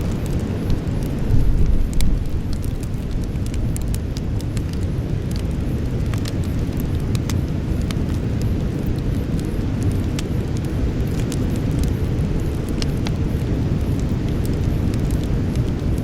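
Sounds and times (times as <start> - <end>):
campfire crackling and popping: 0.0 - 16.0
low fire rumble: 0.0 - 16.0.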